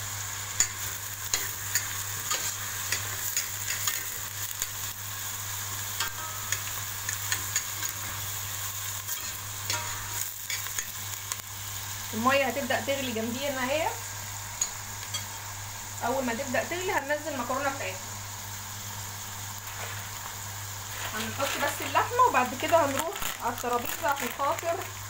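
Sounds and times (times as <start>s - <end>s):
onions sizzling in a pot: 0.0s - 25.0s.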